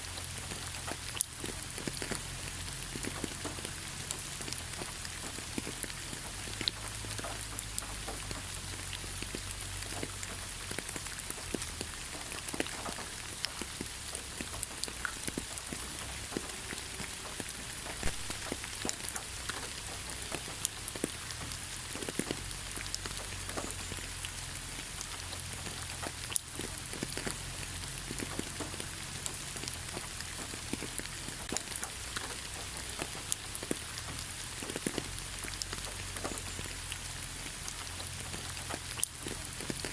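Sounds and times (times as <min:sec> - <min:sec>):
raindrops tapping: 0:00.0 - 0:39.9
steady rain in forest: 0:00.0 - 0:39.9.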